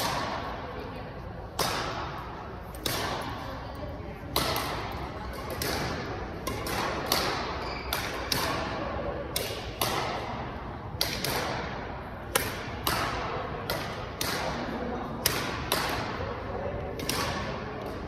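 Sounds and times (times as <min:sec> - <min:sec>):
rackets striking shuttlecocks: 0:00.0 - 0:00.6, 0:01.4 - 0:18.0.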